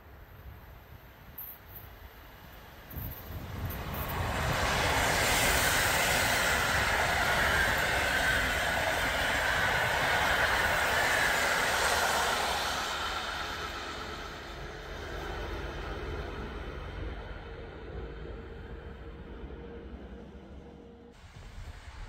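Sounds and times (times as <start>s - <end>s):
train wheels rushing on rail: 0.7s - 22.0s.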